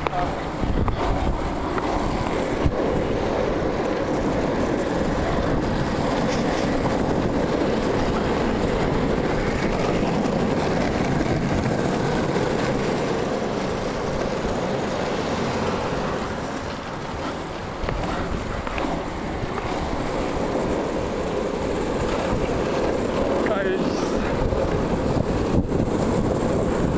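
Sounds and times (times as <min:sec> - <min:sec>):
skateboard wheels rolling on asphalt: 0:00.0 - 0:26.9.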